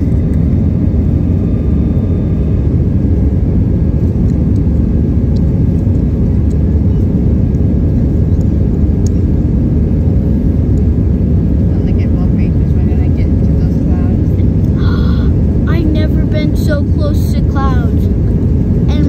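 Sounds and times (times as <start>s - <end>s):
jet engines and rushing air: 0.0s - 19.0s.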